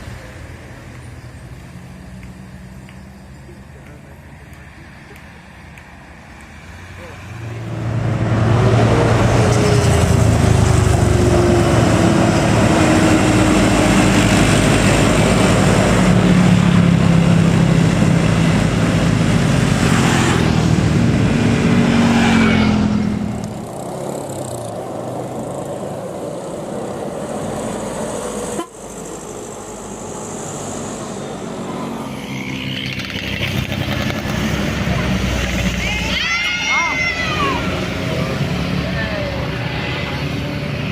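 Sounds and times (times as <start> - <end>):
heavy diesel trucks labouring uphill: 0.0 - 40.9.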